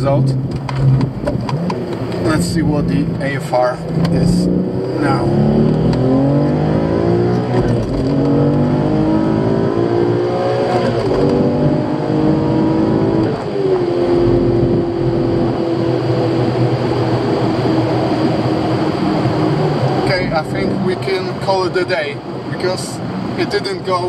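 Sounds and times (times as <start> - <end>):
car engine accelerating through gears: 0.0 - 21.4.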